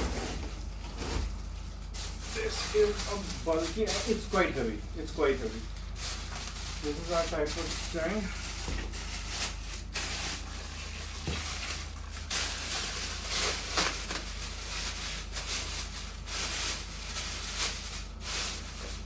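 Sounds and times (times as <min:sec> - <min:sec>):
low electrical hum: 0:00.0 - 0:19.0
packaging rustling and crinkling: 0:00.0 - 0:19.0.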